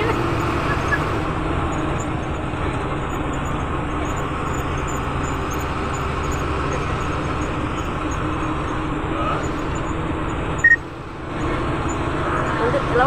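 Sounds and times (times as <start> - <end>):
bus engine: 0.0 - 13.0
road noise: 0.0 - 13.0.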